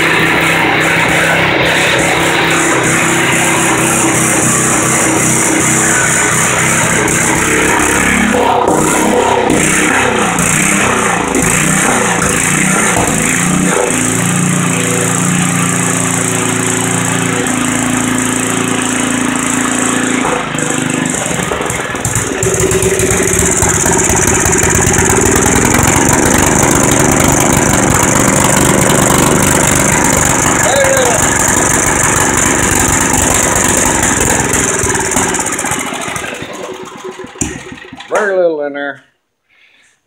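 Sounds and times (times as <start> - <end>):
small tiller engine running: 0.0 - 38.4.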